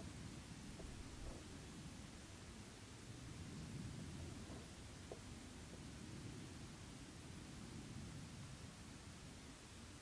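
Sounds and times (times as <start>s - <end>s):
faint microphone hiss: 0.0s - 10.0s.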